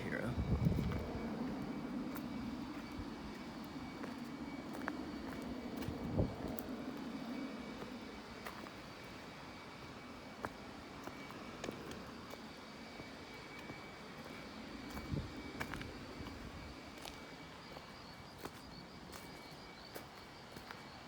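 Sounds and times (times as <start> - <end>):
distant engine drone: 0.0 - 21.0.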